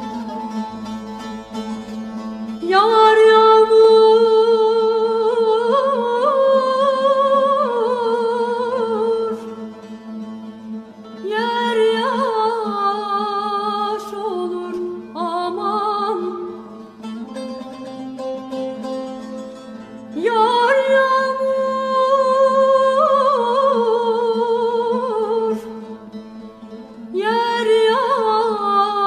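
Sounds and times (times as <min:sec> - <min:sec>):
wavering folk melody: 0:00.0 - 0:29.0.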